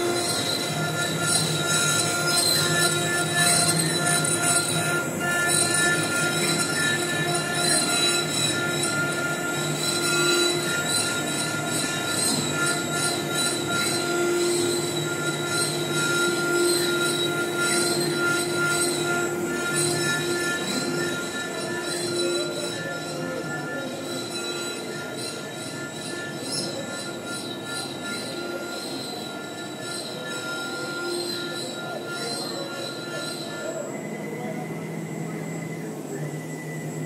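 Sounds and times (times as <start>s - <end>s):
router spindle whining: 0.0s - 37.0s.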